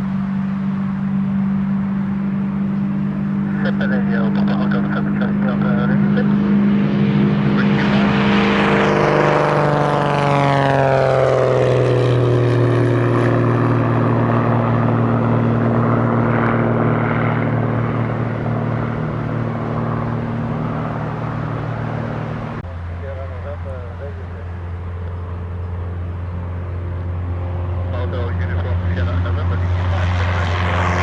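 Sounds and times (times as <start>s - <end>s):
propeller aircraft engine passing: 0.0s - 31.0s.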